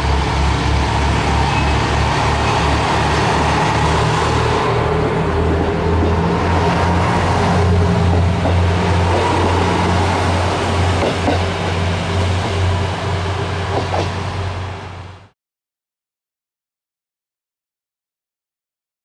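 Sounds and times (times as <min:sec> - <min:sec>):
diesel railcar engine drone: 0:00.0 - 0:15.4.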